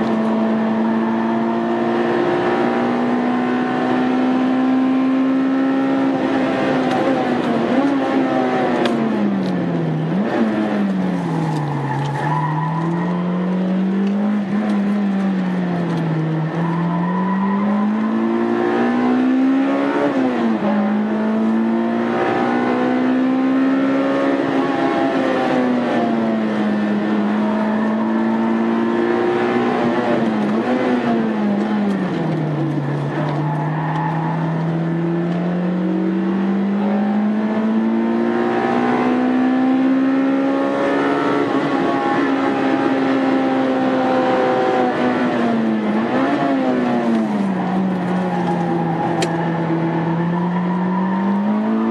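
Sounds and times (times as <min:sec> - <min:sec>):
car engine revving hard: 0:00.0 - 0:51.9.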